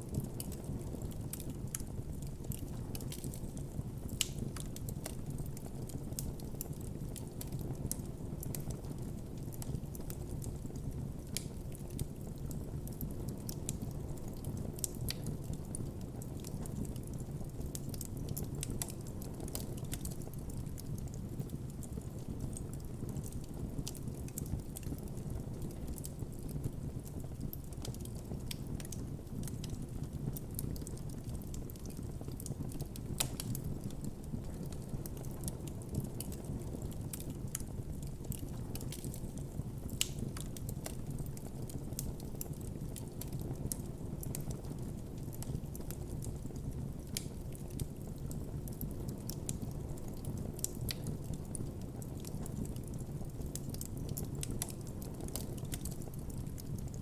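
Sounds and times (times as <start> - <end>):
wood crackling and popping: 0.0 - 57.0.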